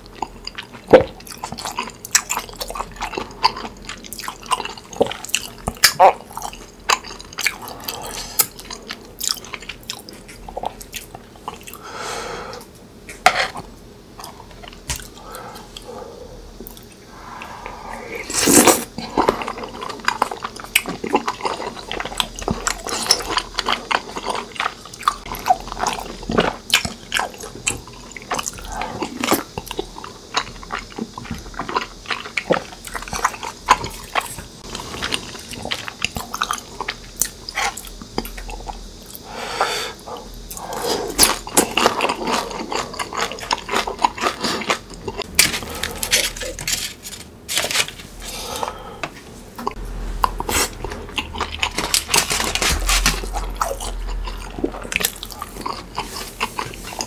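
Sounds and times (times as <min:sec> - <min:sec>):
wet chewing and slurping: 0:00.0 - 0:11.8, 0:16.6 - 0:48.8, 0:49.6 - 0:57.0.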